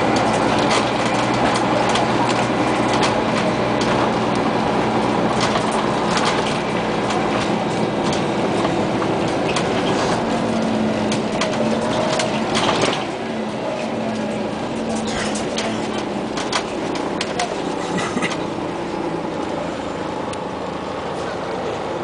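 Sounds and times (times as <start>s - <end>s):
bus body rattling: 0.0s - 22.0s
bus engine and road noise: 0.0s - 22.0s.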